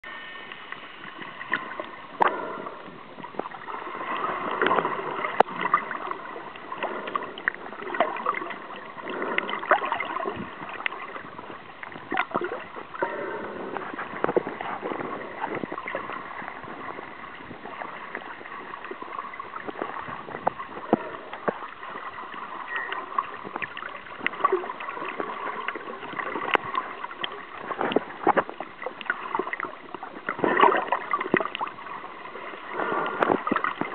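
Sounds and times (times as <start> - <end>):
water sloshing and gurgling: 0.0 - 33.9.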